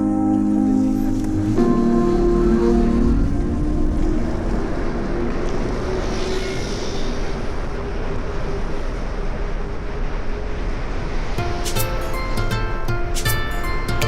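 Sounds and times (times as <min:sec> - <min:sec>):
wind and road noise: 0:00.4 - 0:14.0.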